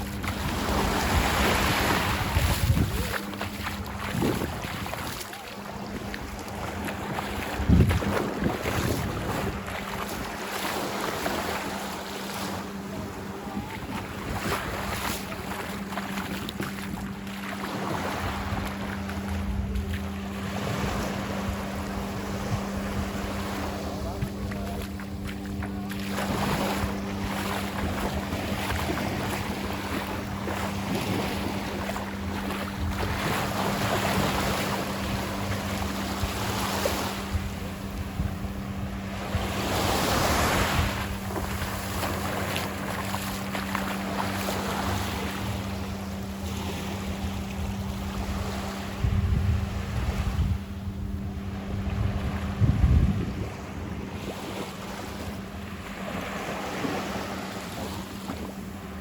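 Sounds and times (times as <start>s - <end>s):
low hum: 0.0s - 59.0s
surf washing onto beach: 0.0s - 59.0s
wind buffeting microphone: 0.0s - 59.0s.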